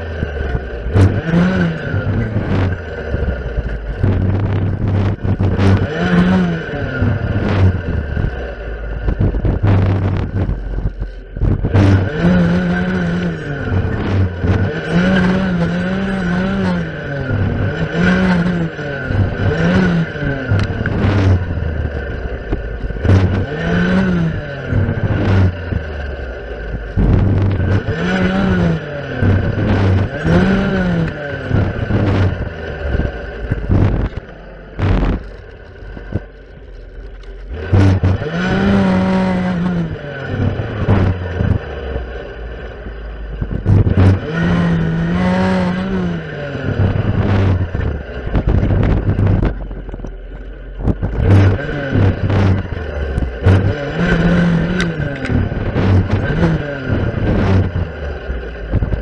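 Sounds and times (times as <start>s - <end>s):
clearing saw engine revving: 0.0s - 59.0s.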